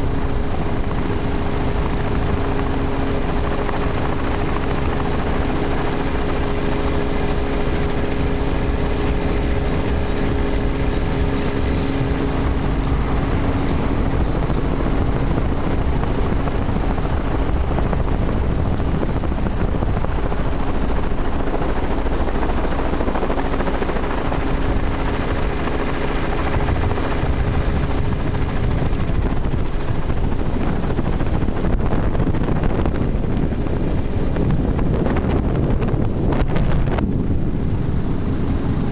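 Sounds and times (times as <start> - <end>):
helicopter rotor and engine: 0.0 - 38.9
steady engine hum: 0.0 - 38.9.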